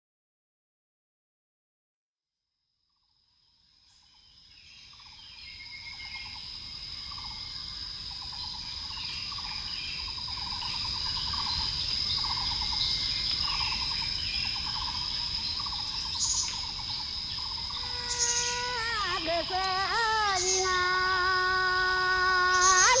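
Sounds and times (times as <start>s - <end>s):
low insect trill: 2.8s - 23.0s
bird chirps: 3.9s - 23.0s
high insect buzz: 3.9s - 23.0s.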